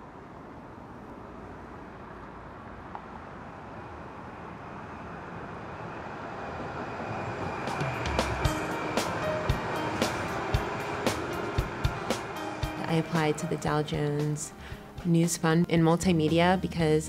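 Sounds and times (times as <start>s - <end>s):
street traffic rushing: 0.0s - 15.1s.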